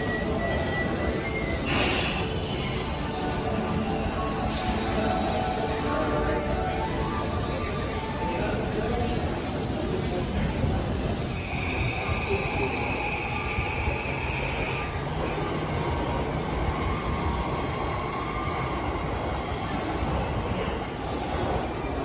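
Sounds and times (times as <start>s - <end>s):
high train whine: 0.0s - 22.0s
low train whine: 0.0s - 22.0s
train wheels rumbling on rails: 0.0s - 22.0s.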